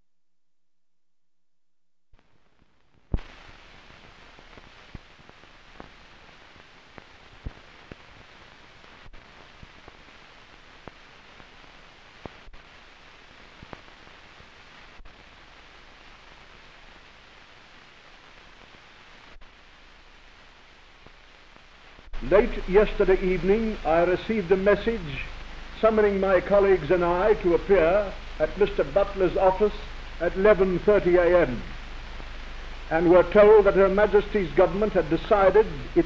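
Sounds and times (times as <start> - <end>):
old film soundtrack hiss: 2.2 - 36.0.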